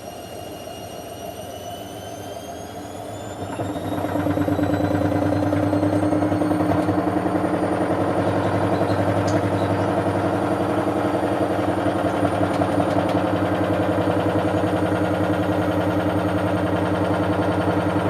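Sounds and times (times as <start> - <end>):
washing machine spinning: 0.0 - 18.0.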